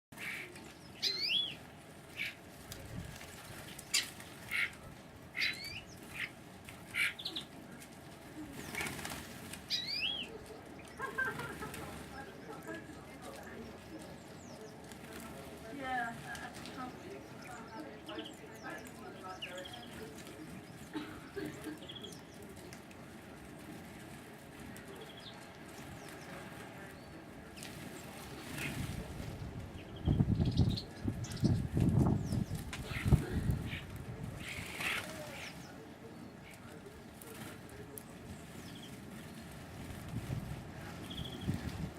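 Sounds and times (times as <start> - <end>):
birds chirping: 0.1 - 41.9.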